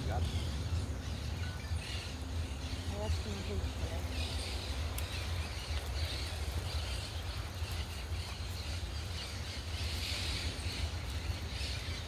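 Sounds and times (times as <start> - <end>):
birds calling: 0.0 - 12.0
steady low rumble: 0.0 - 12.0.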